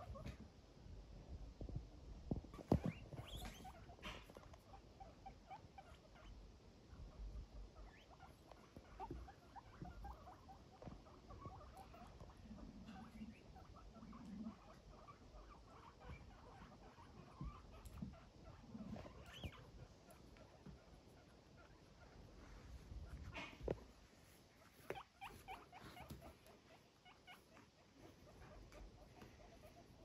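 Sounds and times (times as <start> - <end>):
guinea pigs squeaking: 0.0 - 0.4, 2.3 - 30.0.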